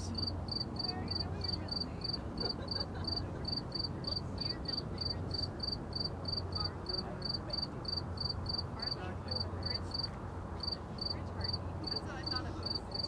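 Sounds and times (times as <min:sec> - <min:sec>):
cricket chirping: 0:00.0 - 0:13.0
distant city traffic hum: 0:00.0 - 0:13.0.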